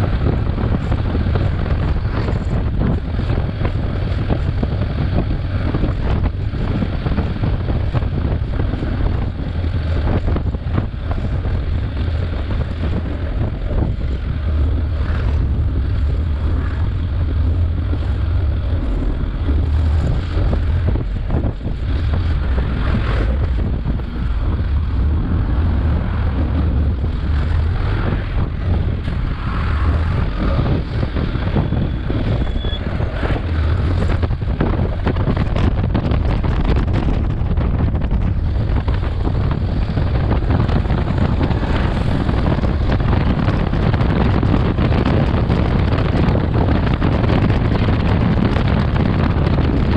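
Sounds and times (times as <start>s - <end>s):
motorcycle engine and road noise: 0.0s - 49.9s
wind rushing on microphone: 0.0s - 49.9s.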